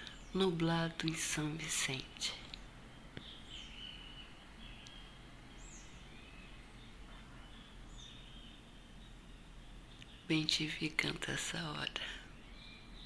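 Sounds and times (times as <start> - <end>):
distant birds chirping: 0.0 - 13.0
low background hum: 0.0 - 13.0.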